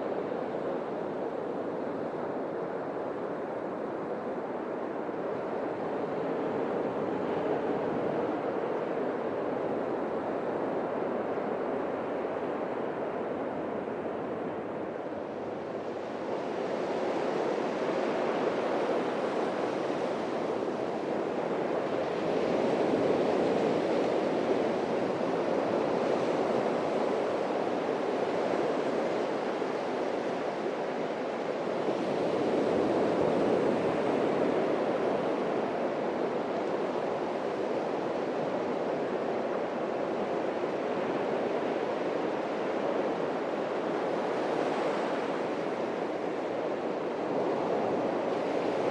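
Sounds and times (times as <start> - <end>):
waves breaking on sandy beach: 4.9 - 48.9.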